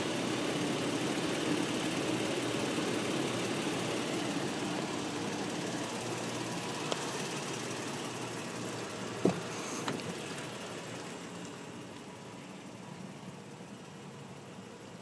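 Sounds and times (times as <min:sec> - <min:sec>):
pickup truck idling: 0:00.0 - 0:15.0.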